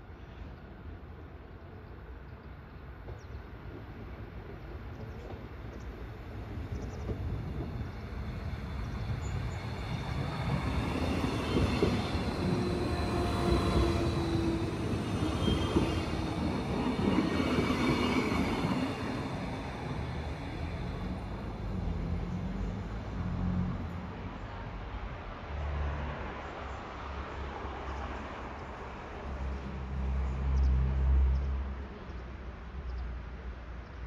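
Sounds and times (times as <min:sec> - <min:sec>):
train passing rumble: 0:00.0 - 0:34.0.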